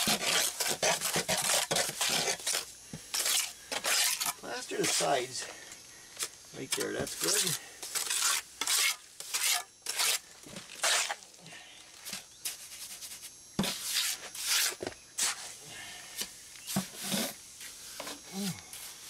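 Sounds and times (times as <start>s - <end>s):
trowel scraping mortar: 0.0s - 5.2s, 6.6s - 11.3s, 12.0s - 15.6s, 16.6s - 19.0s.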